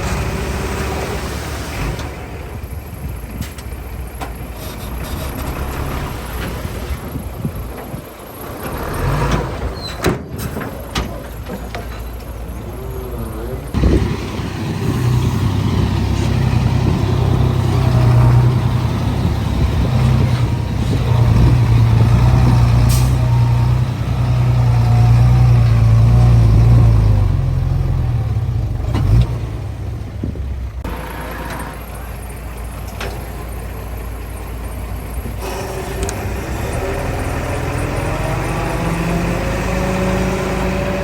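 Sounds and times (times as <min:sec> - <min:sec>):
diesel machinery engine running: 0:00.0 - 0:41.0.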